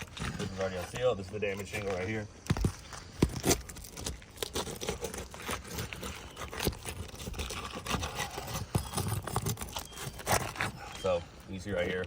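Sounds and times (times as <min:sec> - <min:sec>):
roof shingle scraping and crunching: 0:00.0 - 0:12.0.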